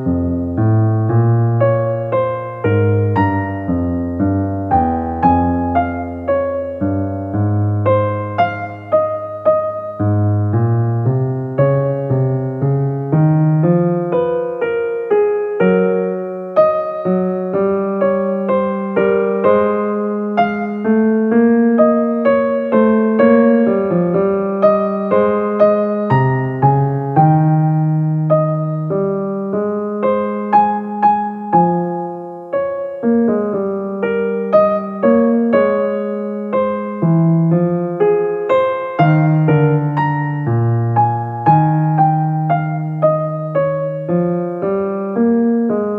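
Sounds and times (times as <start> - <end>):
calm piano music: 0.0 - 45.9.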